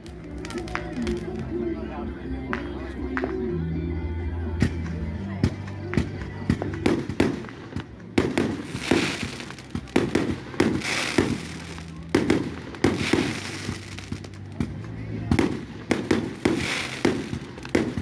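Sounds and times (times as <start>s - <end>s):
fireworks crackling hiss: 0.0s - 1.9s, 4.6s - 18.0s
fireworks banging: 0.0s - 3.4s, 4.6s - 18.0s.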